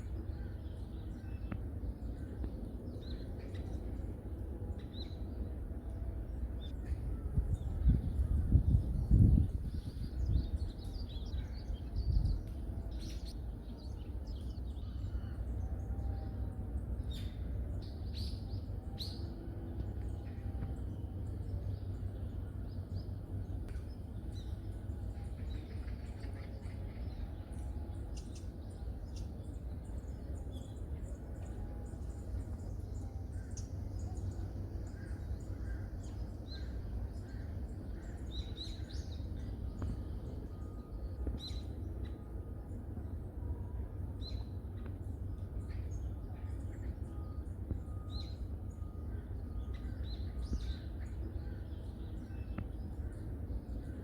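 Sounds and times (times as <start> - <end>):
low rumble: 0.0 - 48.2
birds chirping: 0.0 - 54.0.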